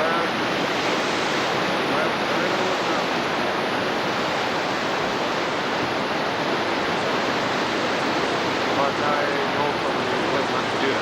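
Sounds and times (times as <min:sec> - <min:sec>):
river water rushing over dam: 0:00.0 - 0:11.0.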